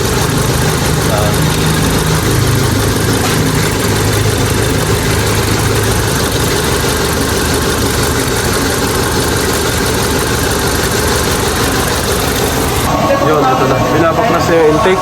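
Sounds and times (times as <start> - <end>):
engine idling roughly with misfire: 0.0 - 15.0
low hum: 0.0 - 15.0.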